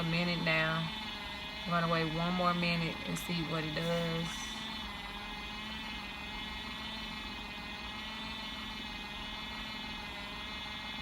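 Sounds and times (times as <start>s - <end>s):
small motor whirring: 0.0s - 11.0s.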